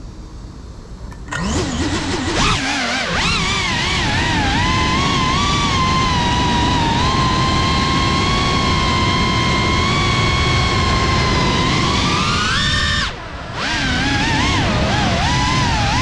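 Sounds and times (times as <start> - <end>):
drone motors whining: 1.1 - 16.0.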